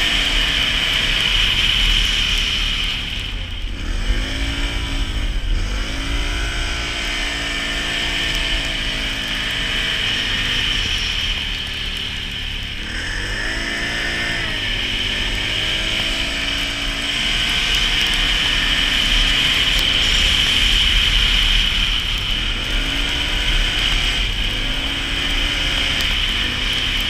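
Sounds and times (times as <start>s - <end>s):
atv engine revving: 0.0s - 27.0s
steady rushing noise: 0.0s - 27.0s.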